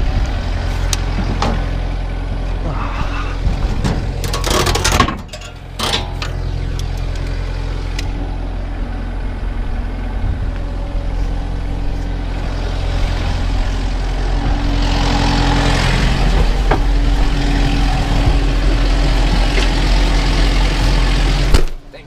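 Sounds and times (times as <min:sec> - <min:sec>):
hum: 0:00.0 - 0:21.9
round baler working: 0:00.0 - 0:22.0
tractor engine running: 0:00.0 - 0:22.0.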